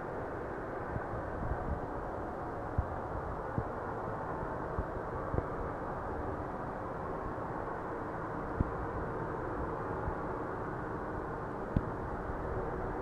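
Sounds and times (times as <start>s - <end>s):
muffled droning hum: 0.0s - 13.0s.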